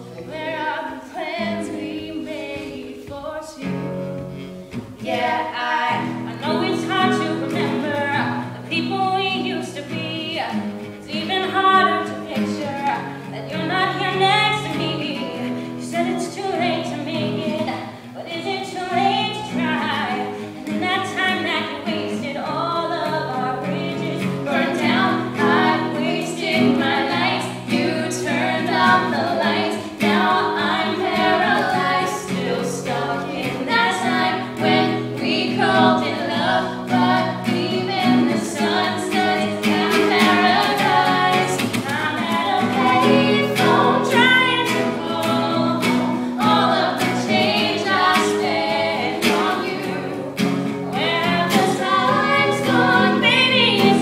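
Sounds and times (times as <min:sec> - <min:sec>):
guitar accompaniment: 0:00.0 - 0:54.0
women singing: 0:00.0 - 0:54.0.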